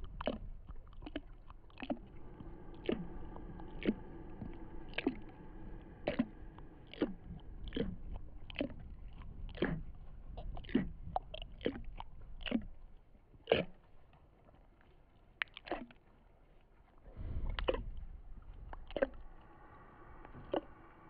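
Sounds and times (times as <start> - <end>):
faint steady drone: 0.0 - 13.0, 17.1 - 21.0.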